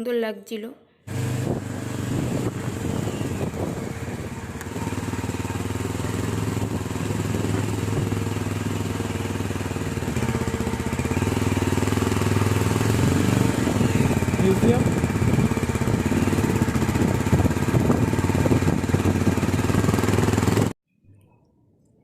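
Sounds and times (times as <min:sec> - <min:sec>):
motorcycle engine running: 0:01.1 - 0:20.8.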